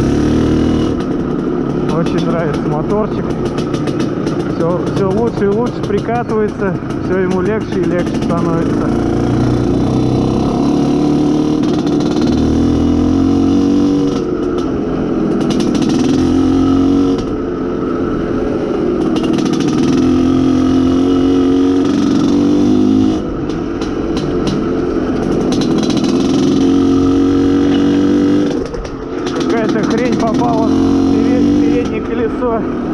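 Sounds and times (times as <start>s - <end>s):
two-stroke motorcycle engine pulling: 0.0s - 32.9s.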